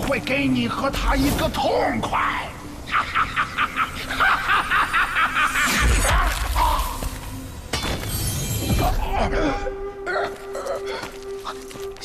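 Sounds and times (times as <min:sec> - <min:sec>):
dramatic fight music: 0:00.0 - 0:10.2.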